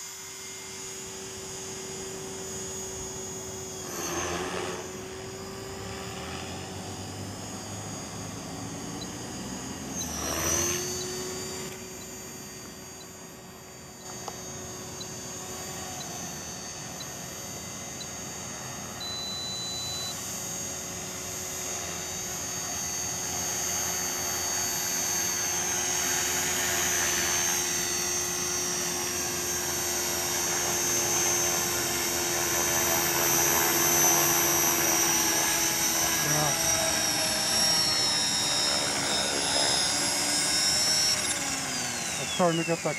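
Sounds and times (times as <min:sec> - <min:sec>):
rc helicopter whining: 0:00.0 - 0:42.9.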